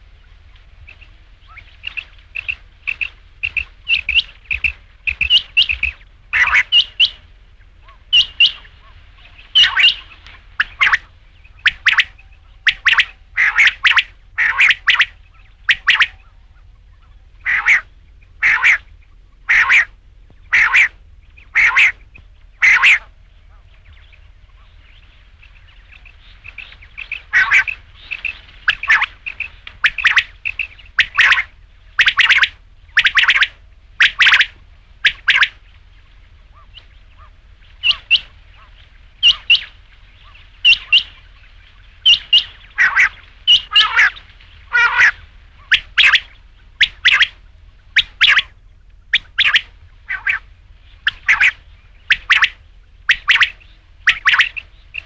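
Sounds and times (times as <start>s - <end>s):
faint continuous chirping: 0.0s - 55.0s
quail calling: 0.0s - 55.0s.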